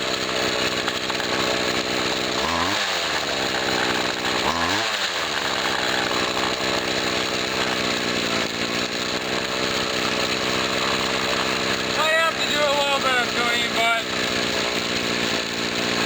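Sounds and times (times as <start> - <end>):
string trimmer engine at high revs: 0.0 - 16.0.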